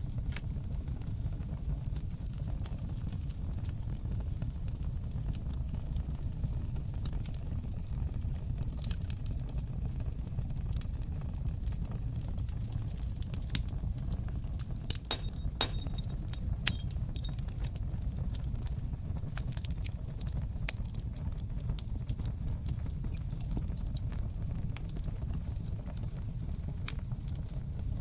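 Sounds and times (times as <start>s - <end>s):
fire low rumble: 0.0s - 28.0s
wood fire crackling and popping: 0.0s - 28.0s.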